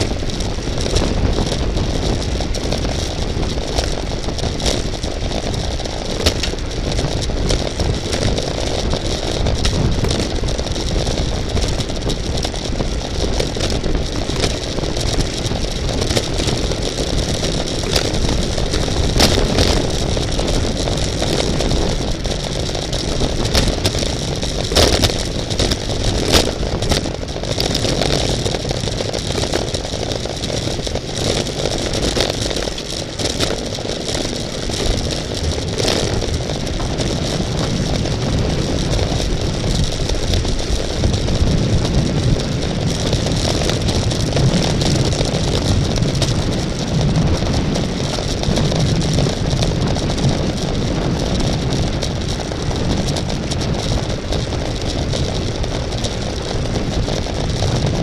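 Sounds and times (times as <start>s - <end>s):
bicycle rattles: 0.0s - 58.0s
wind and road noise rushing: 0.0s - 58.0s.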